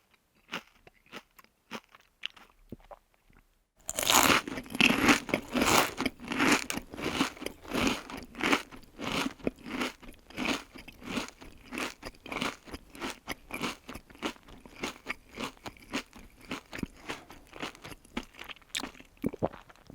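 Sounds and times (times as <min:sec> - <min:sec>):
person chewing crunchy food: 0:03.8 - 0:19.9.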